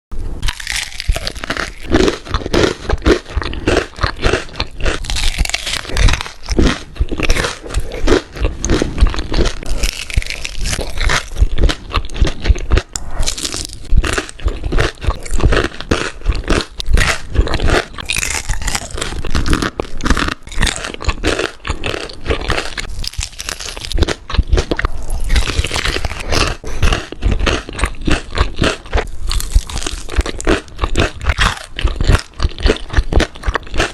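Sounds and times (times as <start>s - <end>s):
chewing crunchy food: 0.4s - 33.9s.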